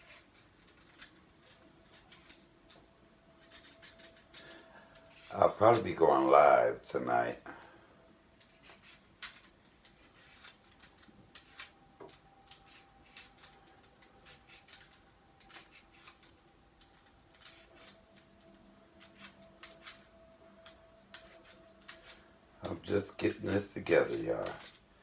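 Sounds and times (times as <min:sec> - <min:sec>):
vegetable peeler scraping potato: 0:00.0 - 0:02.4, 0:03.4 - 0:06.4, 0:08.4 - 0:16.3, 0:16.9 - 0:18.2, 0:19.0 - 0:24.8
faint steady hum: 0:00.0 - 0:25.0.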